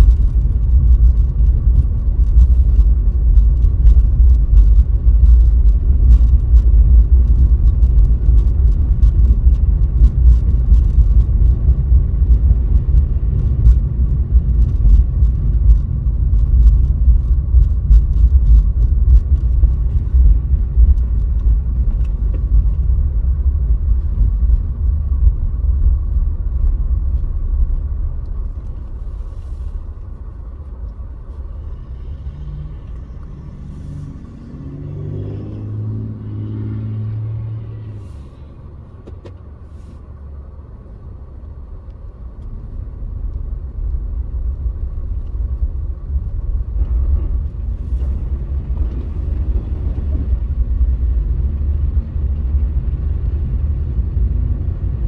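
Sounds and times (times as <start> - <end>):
car tyres rumbling on snow: 0.0 - 55.0.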